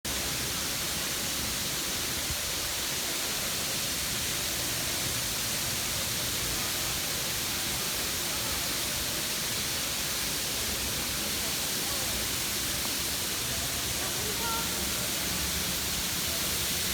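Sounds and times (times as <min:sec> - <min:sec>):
water falling from fountain: 0:00.1 - 0:16.9.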